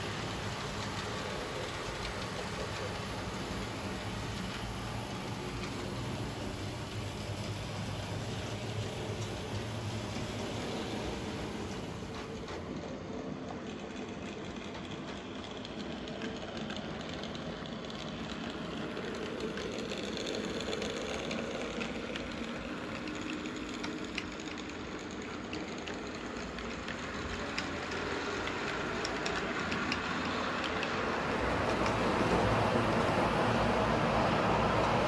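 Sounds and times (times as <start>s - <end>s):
light clicks of train: 0.0s - 35.0s
model train rumbling on track: 0.0s - 35.0s.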